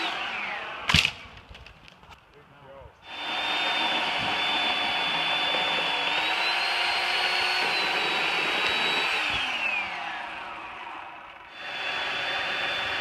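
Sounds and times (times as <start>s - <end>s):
chainsaw cutting wood: 0.0s - 1.5s, 3.0s - 13.0s.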